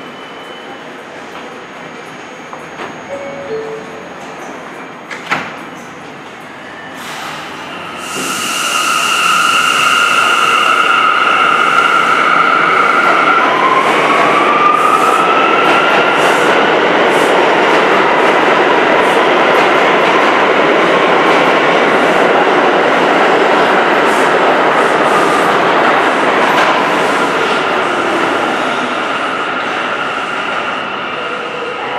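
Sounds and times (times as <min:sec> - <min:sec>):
train wheel and rail noise: 0:00.0 - 0:31.9.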